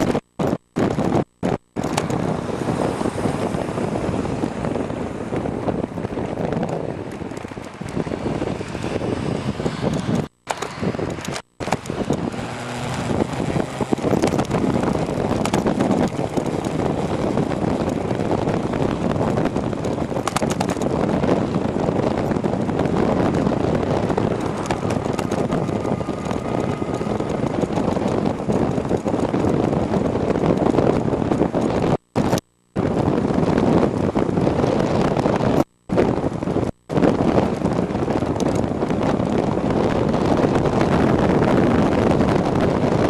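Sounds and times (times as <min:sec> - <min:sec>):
tyre and road noise: 0:00.0 - 0:43.0
wind rushing over microphone: 0:00.0 - 0:43.0.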